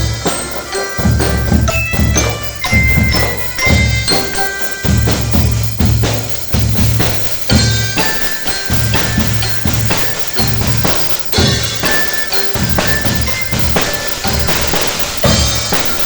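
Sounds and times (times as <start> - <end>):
bell-like ringing notes: 0.0 - 16.0
drum band playing: 0.0 - 16.0.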